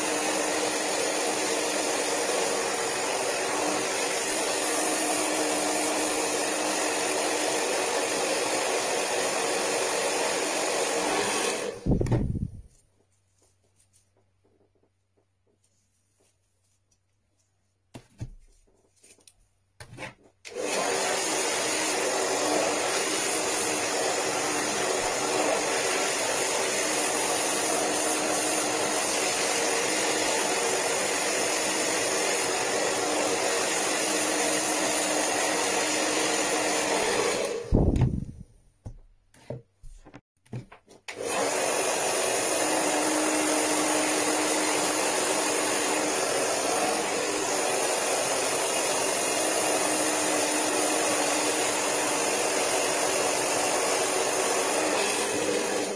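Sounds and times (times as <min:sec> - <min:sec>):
hair dryer blowing: 0:00.0 - 0:12.7, 0:20.5 - 0:38.5, 0:41.1 - 0:55.9.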